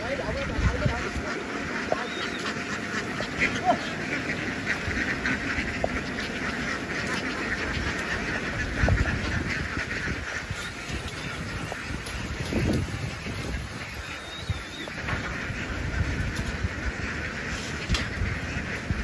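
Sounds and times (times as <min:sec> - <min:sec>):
flock of ducks quacking: 0:00.0 - 0:19.0.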